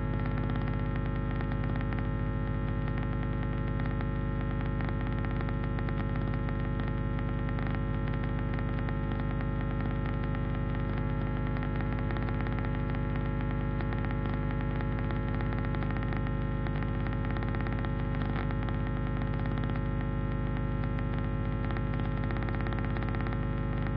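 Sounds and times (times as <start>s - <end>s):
electrical buzzing hum: 0.0s - 23.9s
faint static crackle: 0.0s - 23.9s.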